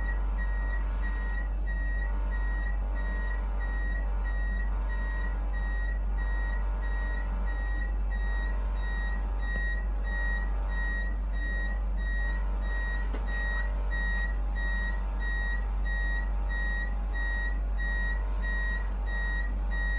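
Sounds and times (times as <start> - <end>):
constant low hum: 0.0 - 19.9
electronic warning beeper: 0.0 - 19.9.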